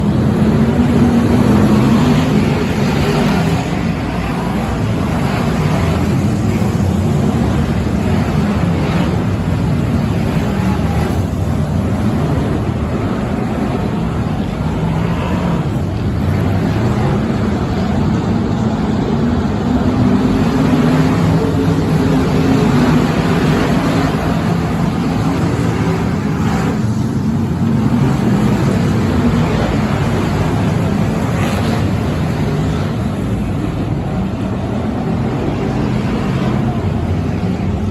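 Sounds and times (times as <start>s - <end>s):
stock car engines droning: 0.0s - 37.9s.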